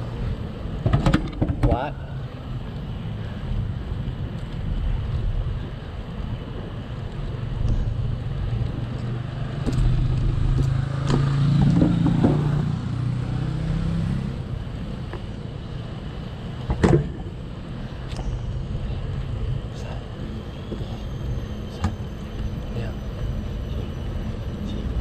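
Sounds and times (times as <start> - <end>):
low traffic rumble: 0.0 - 25.0
car passing: 2.0 - 25.0.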